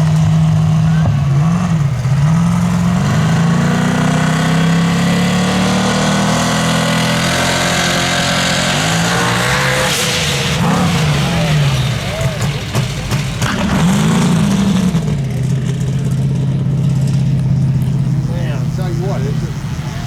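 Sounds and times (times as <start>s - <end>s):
car launching rush: 0.0s - 20.0s
race car engine revving: 0.0s - 20.0s.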